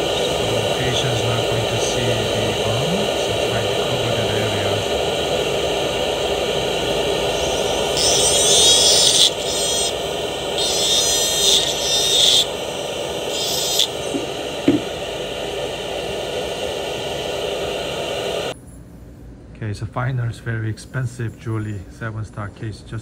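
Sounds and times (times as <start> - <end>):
dental handpiece whirring: 0.0 - 18.6
harsh high hiss of bur trimming: 0.0 - 18.6.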